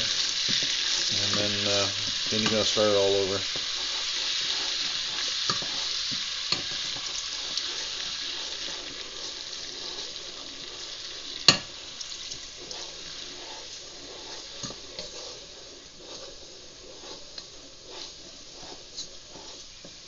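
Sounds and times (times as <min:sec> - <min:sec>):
butter and milk sizzling: 0:00.0 - 0:20.0
wooden spoon stirring: 0:00.0 - 0:20.0.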